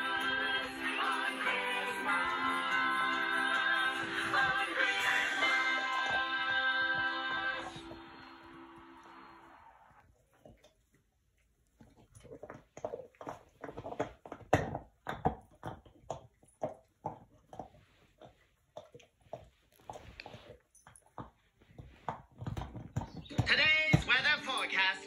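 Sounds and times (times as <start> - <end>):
dog chewing: 0.0 - 24.3.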